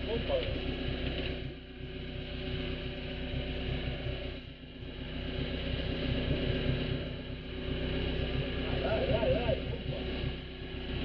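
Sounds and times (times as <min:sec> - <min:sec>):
motorboat engine humming: 0:00.0 - 0:11.0
wind: 0:00.0 - 0:11.0.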